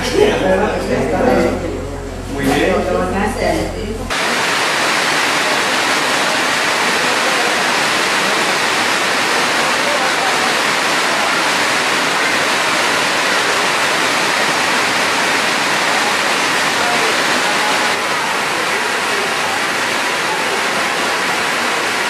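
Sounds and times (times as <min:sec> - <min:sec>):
loud broadband rushing hiss: 0:03.4 - 0:22.0.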